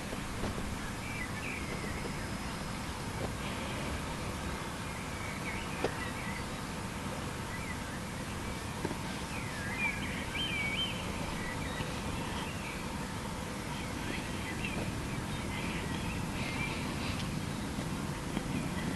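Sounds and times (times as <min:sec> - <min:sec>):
birds chirping: 0:00.0 - 0:18.9
steady outdoor hiss: 0:00.0 - 0:18.9.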